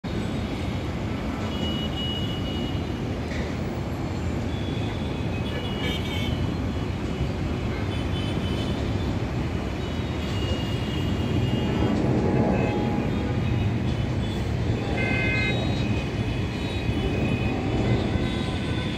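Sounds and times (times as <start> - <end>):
low rumble of city traffic: 0.0 - 18.9.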